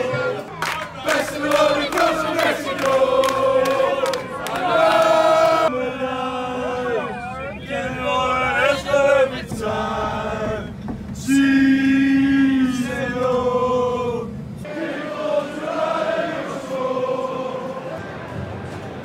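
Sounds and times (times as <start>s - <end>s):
men singing a football chant: 0.0s - 18.2s.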